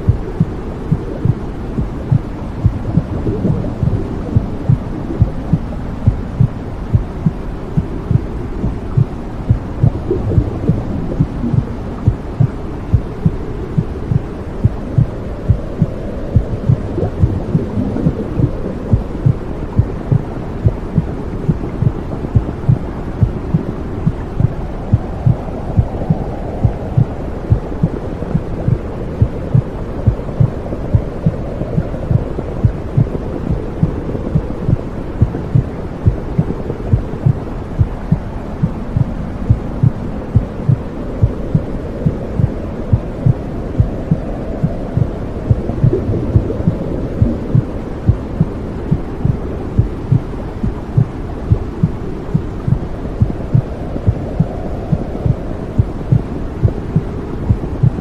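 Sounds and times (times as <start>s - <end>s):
low whooshing noise: 0.0s - 58.0s
muffled heartbeat thumping: 0.0s - 58.0s.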